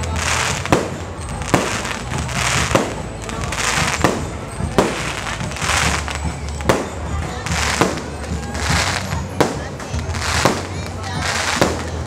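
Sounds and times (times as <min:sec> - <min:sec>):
fireworks bangs: 0:00.0 - 0:12.0
hissing crackle of fireworks: 0:00.0 - 0:12.0.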